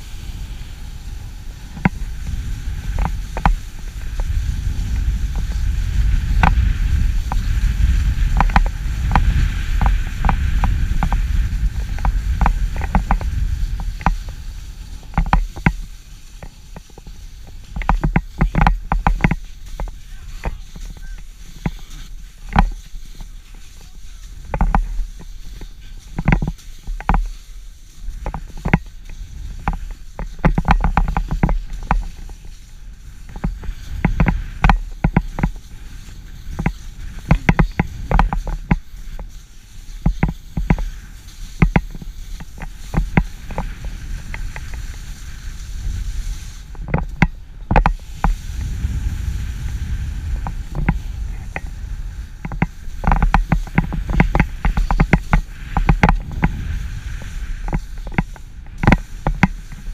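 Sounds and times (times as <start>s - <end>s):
skis scraping on packed snow: 0.0s - 59.9s
wind rumble on microphone: 0.0s - 59.9s.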